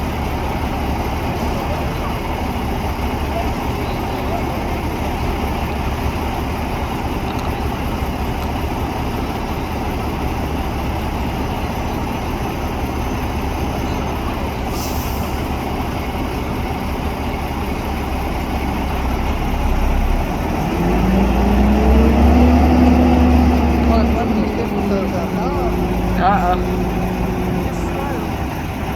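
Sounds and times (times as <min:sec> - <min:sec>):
truck diesel engine revving: 0:00.0 - 0:28.9.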